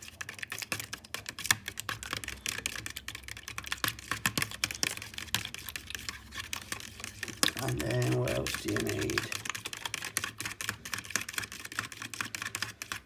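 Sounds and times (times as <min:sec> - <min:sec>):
fork beating eggs in bowl: 0:00.0 - 0:13.0.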